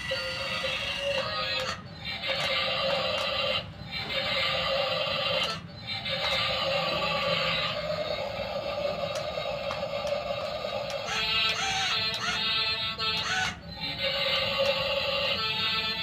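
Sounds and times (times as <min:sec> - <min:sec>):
music: 0:00.0 - 0:16.0.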